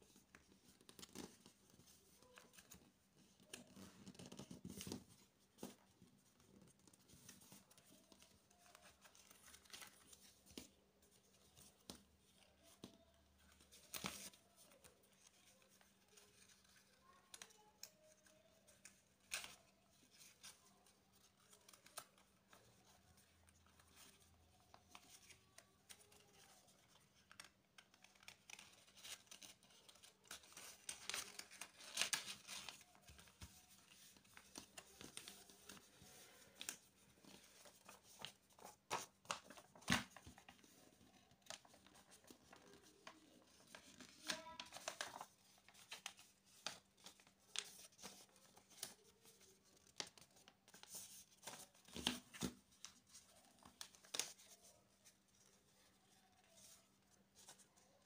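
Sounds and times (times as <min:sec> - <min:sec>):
paper rustling and crinkling: 0:00.0 - 0:58.0.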